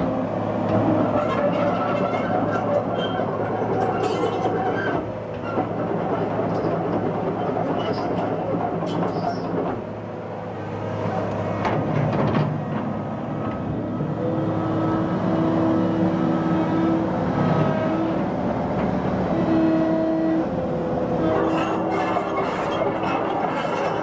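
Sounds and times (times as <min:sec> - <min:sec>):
excavator diesel engine whining: 0:00.0 - 0:24.0.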